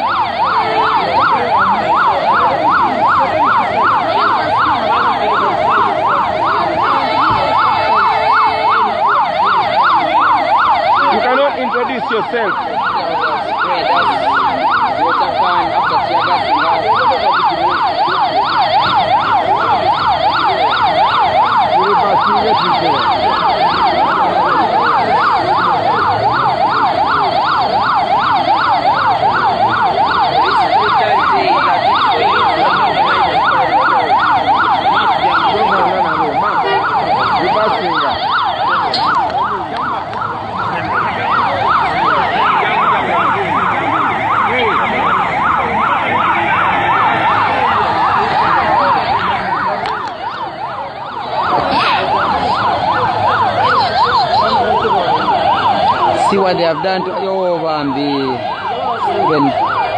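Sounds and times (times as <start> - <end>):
electronic siren yelping: 0.0 - 59.9.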